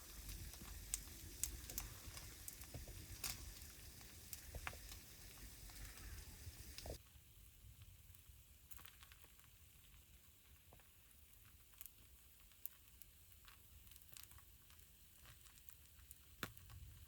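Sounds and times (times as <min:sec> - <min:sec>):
fire crackling: 0:00.0 - 0:07.0, 0:07.7 - 0:17.0
soft sizzle: 0:00.0 - 0:17.0.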